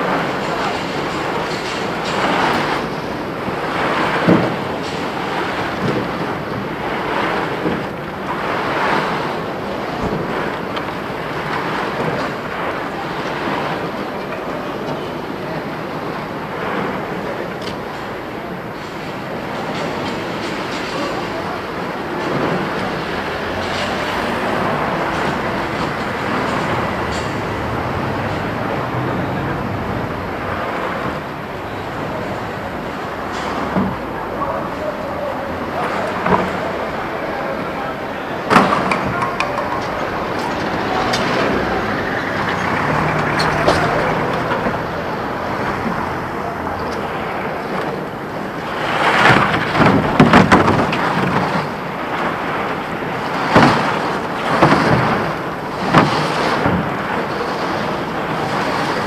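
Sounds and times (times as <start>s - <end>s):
muffled street noise: 0.0s - 59.0s.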